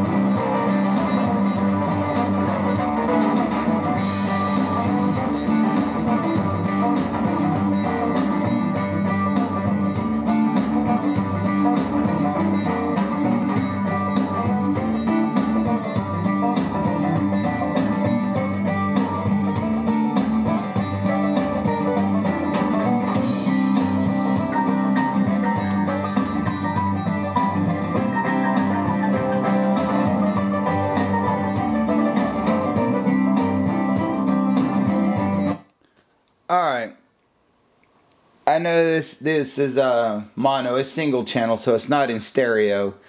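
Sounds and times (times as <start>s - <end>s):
guitar music through speaker: 0.0s - 35.6s.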